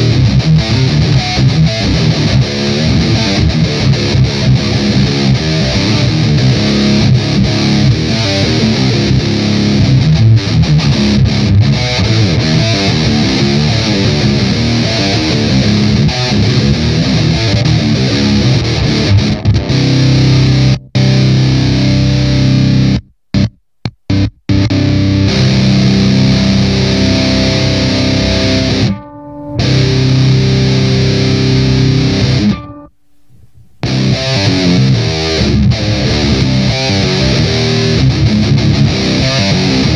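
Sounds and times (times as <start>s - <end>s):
distorted electric guitar riffing: 0.0s - 39.9s.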